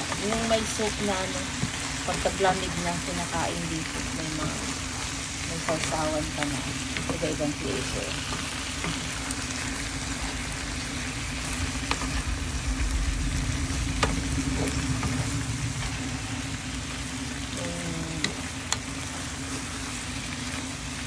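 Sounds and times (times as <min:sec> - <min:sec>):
food sizzling in a frying pan: 0:00.0 - 0:21.0
low hum: 0:00.0 - 0:21.0.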